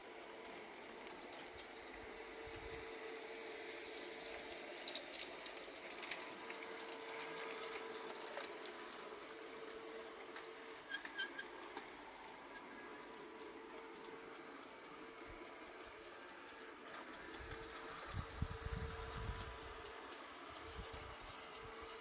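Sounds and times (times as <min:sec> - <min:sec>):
electric motor hum: 0:00.0 - 0:22.0
wheels clicking over rails: 0:00.0 - 0:22.0.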